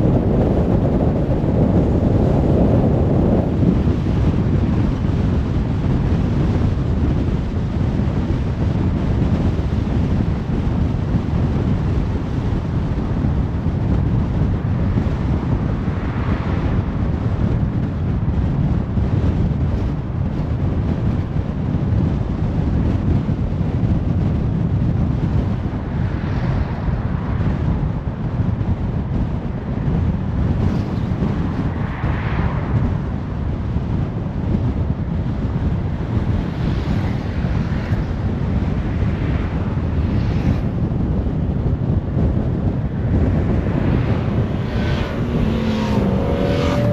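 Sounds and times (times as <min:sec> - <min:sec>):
car wind and road noise: 0:00.0 - 0:46.9.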